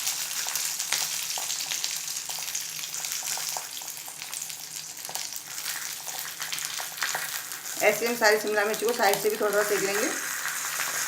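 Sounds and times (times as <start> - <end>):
peppers sizzling in pan: 0.0 - 11.0.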